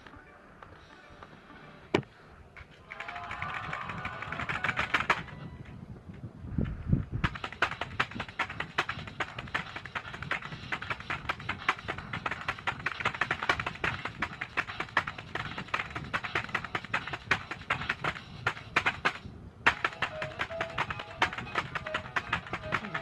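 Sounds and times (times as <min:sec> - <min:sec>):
fast keyboard typing: 0:02.8 - 0:05.5, 0:07.2 - 0:23.0.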